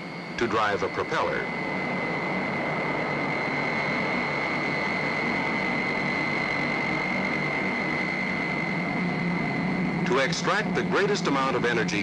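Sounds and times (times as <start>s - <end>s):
turbine engine rushing and whine: 0.0s - 12.0s.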